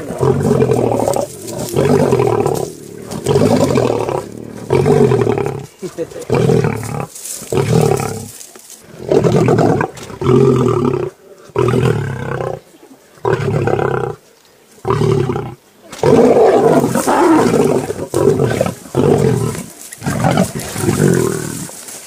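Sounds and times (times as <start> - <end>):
lions growling: 0.0 - 14.2, 14.8 - 21.9.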